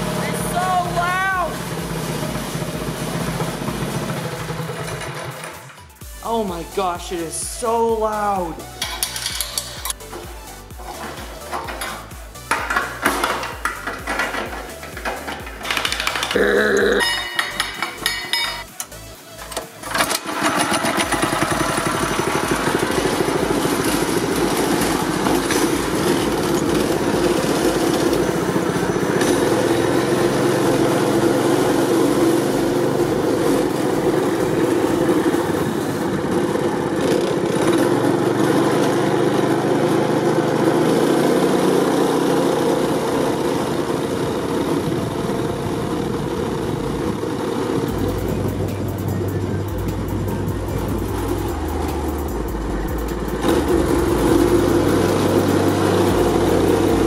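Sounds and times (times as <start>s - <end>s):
go-kart engine revving: 0.0s - 6.1s, 11.1s - 57.0s.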